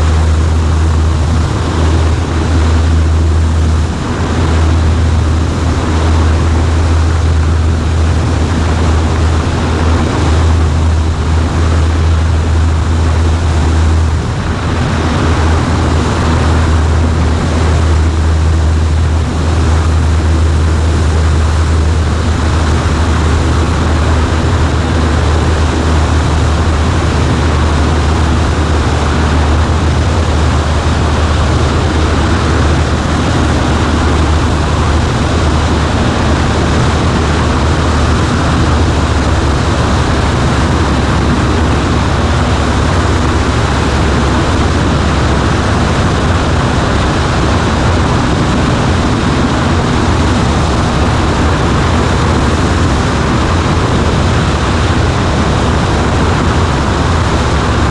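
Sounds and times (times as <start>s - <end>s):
airplane engine and propeller droning: 0.0s - 57.9s
rush of air noise: 0.0s - 57.9s.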